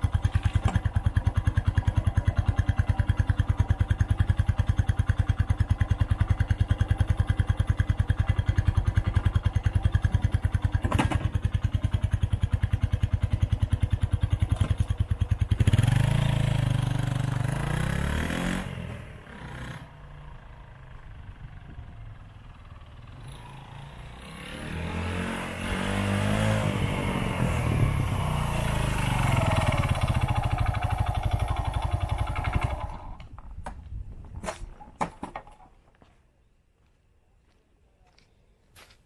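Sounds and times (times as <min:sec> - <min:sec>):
motorcycle engine: 0:00.0 - 0:33.5.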